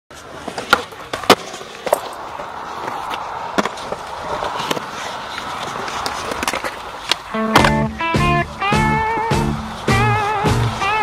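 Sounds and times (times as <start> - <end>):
skateboard clacking on concrete: 0.1 - 11.0
skateboard wheels rolling on concrete: 0.1 - 11.0.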